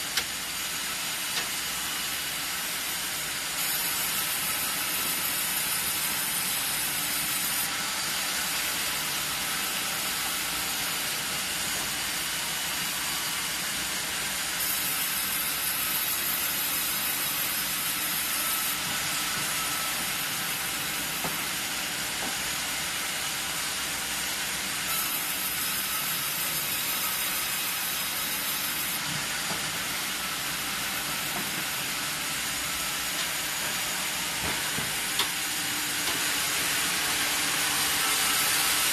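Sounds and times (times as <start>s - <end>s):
band saw sawing log: 0.0s - 22.5s, 24.3s - 38.9s.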